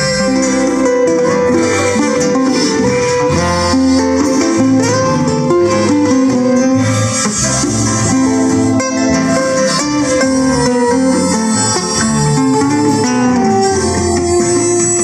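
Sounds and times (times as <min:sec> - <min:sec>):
live band led by guitar: 0:00.0 - 0:15.0.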